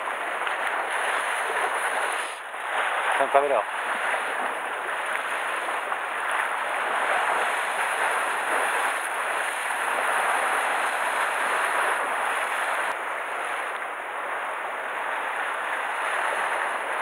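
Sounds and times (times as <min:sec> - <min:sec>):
sea surf against rocks: 0:00.0 - 0:17.0.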